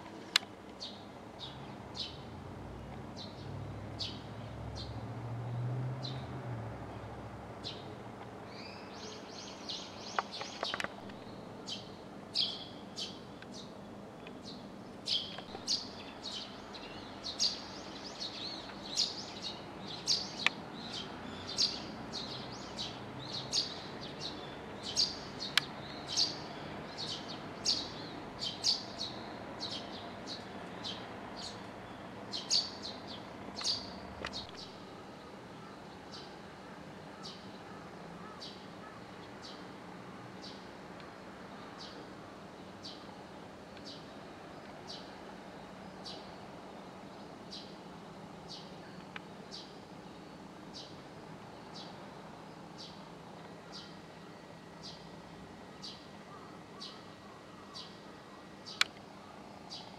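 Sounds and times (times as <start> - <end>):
sparrows chirping: 0.2 - 2.4, 3.1 - 5.1, 6.0 - 39.8, 40.4 - 40.7, 41.5 - 59.9.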